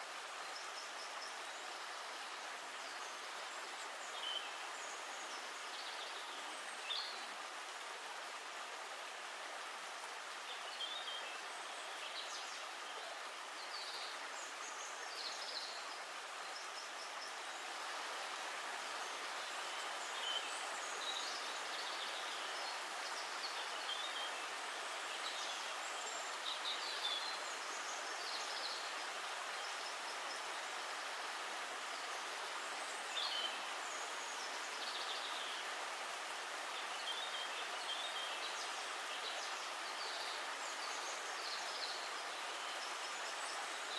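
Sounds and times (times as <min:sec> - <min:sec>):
running water rushing: 0:00.0 - 0:43.9.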